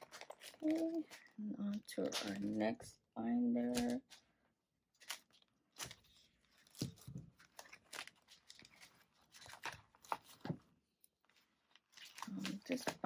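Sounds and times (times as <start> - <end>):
plastic rustling: 0.0 - 2.9, 5.0 - 13.0.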